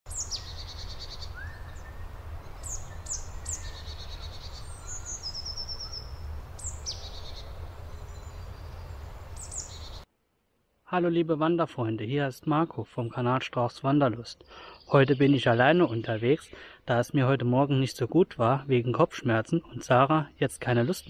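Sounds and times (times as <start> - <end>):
songbirds singing: 0.1 - 10.1, 12.5 - 21.0.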